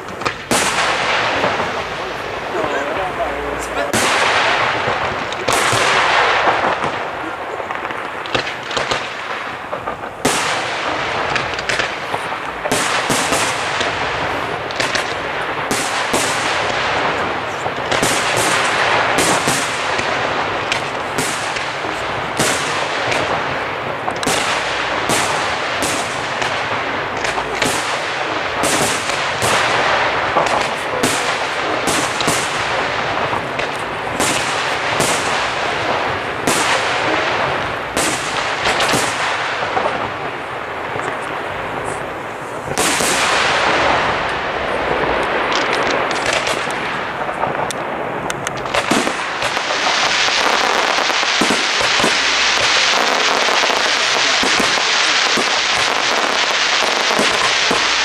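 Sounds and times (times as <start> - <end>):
firework shells bursting: 0.0 - 41.2, 41.8 - 58.0
continuous noisy wash: 0.0 - 58.0.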